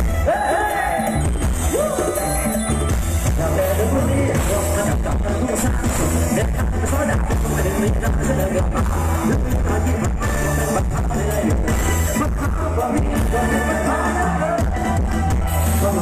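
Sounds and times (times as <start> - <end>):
booming bass line: 0.0 - 16.0
loud dance music: 0.0 - 16.0.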